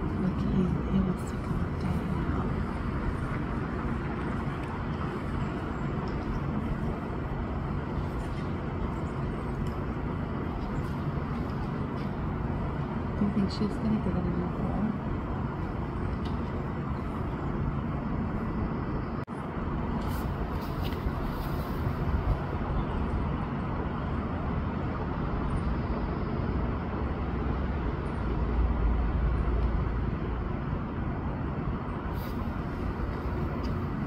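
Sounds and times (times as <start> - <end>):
low outdoor background rumble: 0.0 - 34.0.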